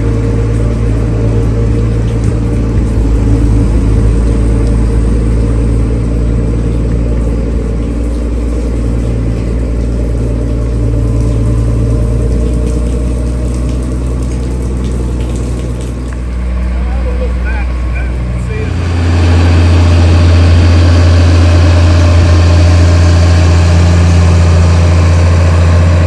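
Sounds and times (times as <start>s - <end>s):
engine low drone: 0.0s - 26.0s.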